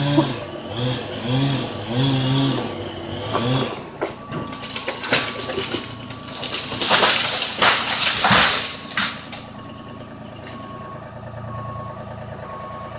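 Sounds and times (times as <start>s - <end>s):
truck reversing alarm beeping: 0.0s - 12.9s
truck engine running: 0.1s - 12.9s.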